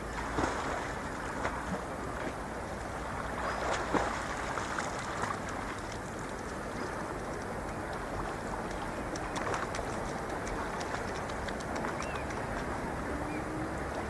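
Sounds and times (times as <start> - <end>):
short water splashes: 0.0 - 2.5, 3.2 - 13.4
lake water lapping: 0.0 - 14.0.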